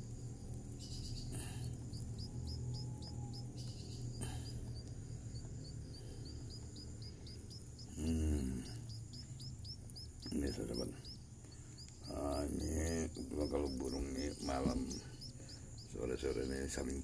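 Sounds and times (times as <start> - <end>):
baby birds chirping: 0.0 - 17.0.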